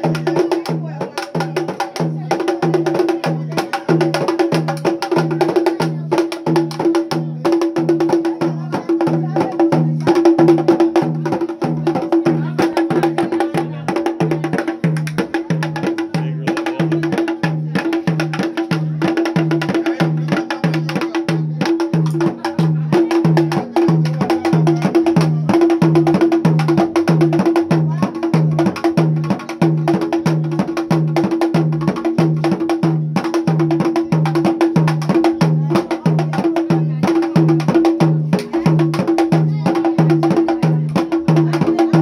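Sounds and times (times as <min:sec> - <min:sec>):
wooden box drums struck with sticks: 0:00.0 - 0:42.0.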